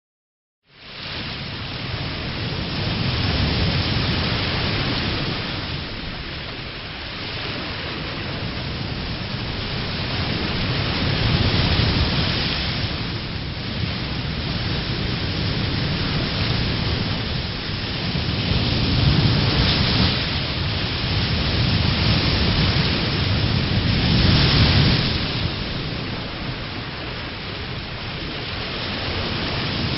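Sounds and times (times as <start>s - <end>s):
waves breaking on shore: 0.7s - 29.9s.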